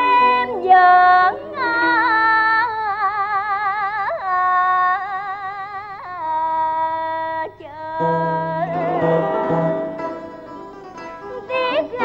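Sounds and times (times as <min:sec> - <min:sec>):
person singing with vibrato: 0:00.0 - 0:10.6, 0:11.2 - 0:12.0.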